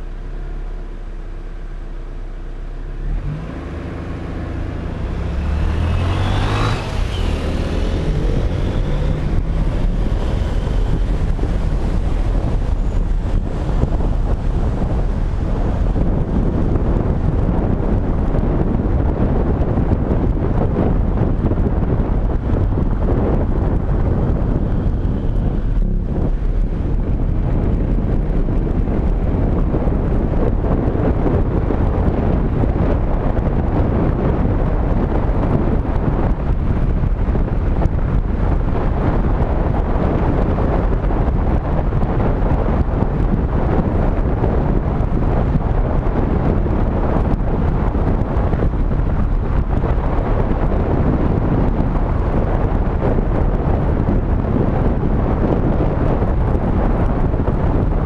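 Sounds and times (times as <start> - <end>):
road noise: 0.0 - 58.0
wind buffeting microphone: 3.1 - 58.0.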